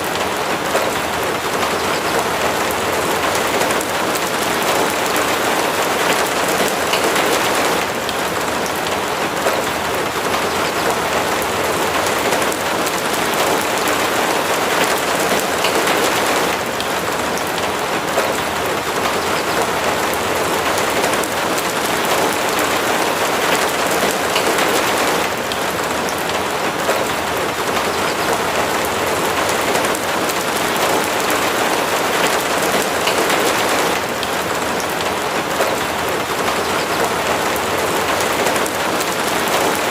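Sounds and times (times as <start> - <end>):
raindrops pattering: 0.0 - 39.9
steady rain: 0.0 - 39.9.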